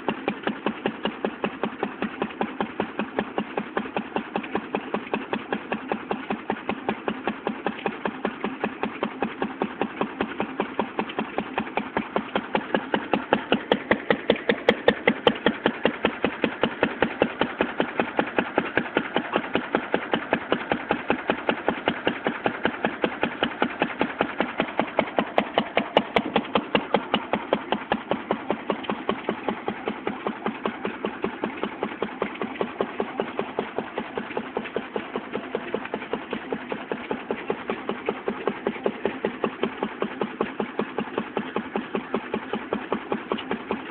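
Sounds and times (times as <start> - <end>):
stationary engine running: 0.0 - 43.9.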